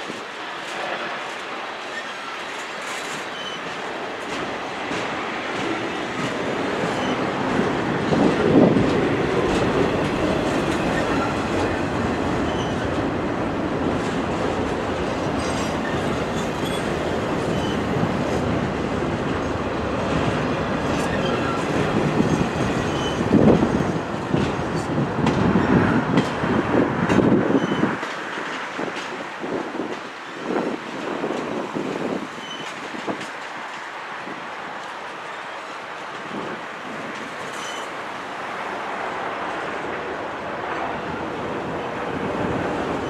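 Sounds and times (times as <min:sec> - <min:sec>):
freight cars rolling on rails: 0:00.0 - 0:43.0.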